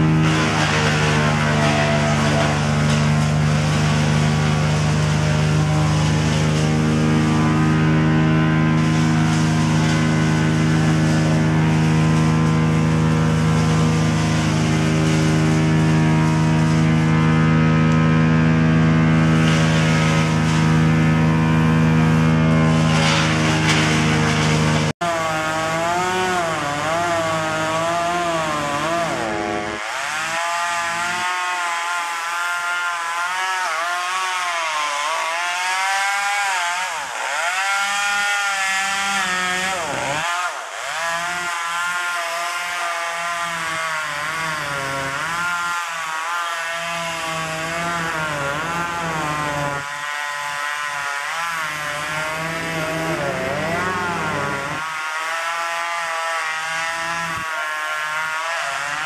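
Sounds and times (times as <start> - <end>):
chainsaw cutting into tree trunk: 0.0 - 59.0.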